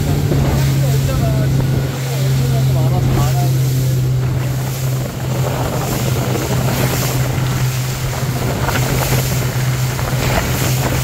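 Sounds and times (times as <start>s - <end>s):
motorboat engine humming: 0.0s - 11.0s
water rushing past hull: 0.0s - 11.0s
wind on microphone: 0.0s - 11.0s.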